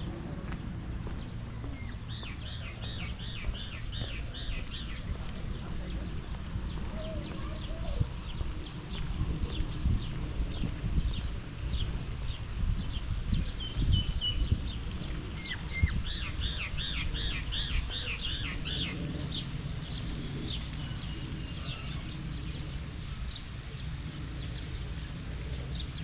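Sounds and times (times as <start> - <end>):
birds chirping: 0.0 - 26.0
low background rumble: 0.0 - 26.0.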